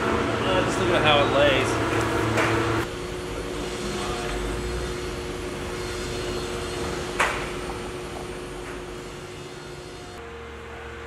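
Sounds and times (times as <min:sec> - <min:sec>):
steady workshop hum: 0:00.0 - 0:11.0.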